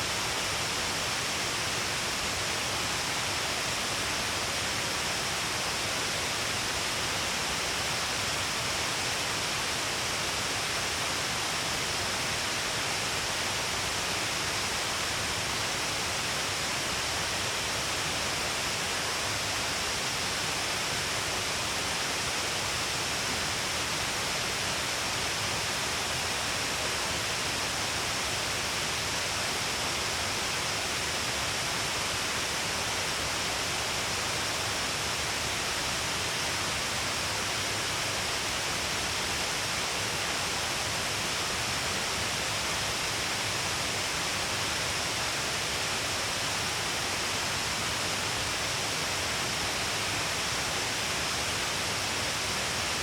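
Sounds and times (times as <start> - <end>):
waterfall rushing hiss: 0.0 - 53.0.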